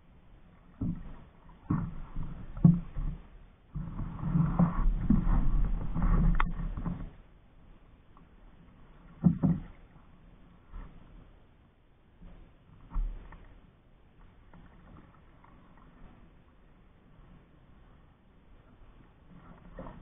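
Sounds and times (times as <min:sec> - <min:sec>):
paddle splashing water: 0:00.0 - 0:20.0.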